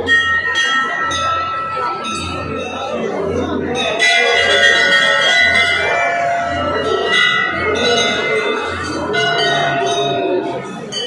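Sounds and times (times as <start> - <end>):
crowd of voices: 0.0 - 11.0
temple bells ringing: 0.0 - 11.0.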